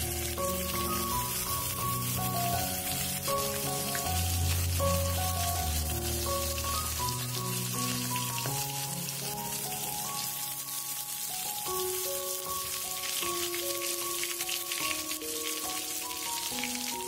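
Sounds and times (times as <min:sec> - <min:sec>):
background music held notes: 0:00.0 - 0:17.0
food sizzling in a wok: 0:00.0 - 0:17.0.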